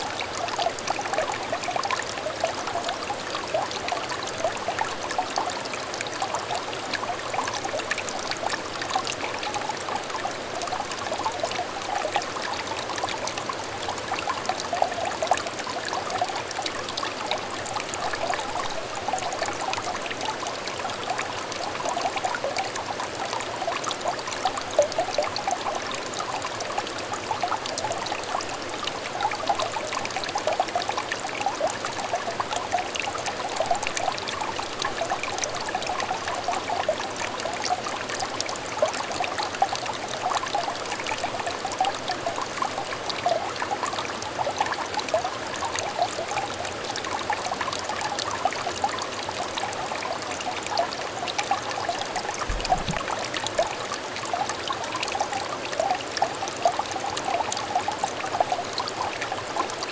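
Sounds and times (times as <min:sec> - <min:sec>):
brook babbling over stones: 0:00.0 - 0:59.9.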